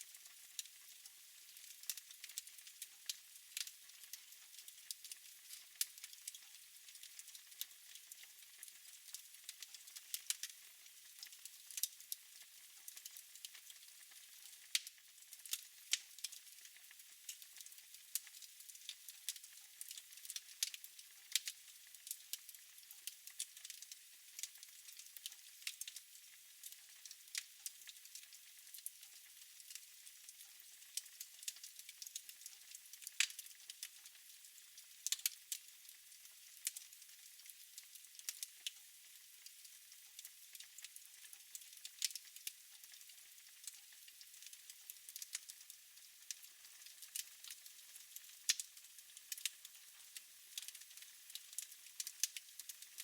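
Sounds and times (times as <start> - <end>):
wood fire crackling: 0.1 - 0.7, 1.5 - 10.5, 11.1 - 12.1, 12.9 - 33.8, 35.0 - 38.5, 40.2 - 45.5, 46.2 - 53.0.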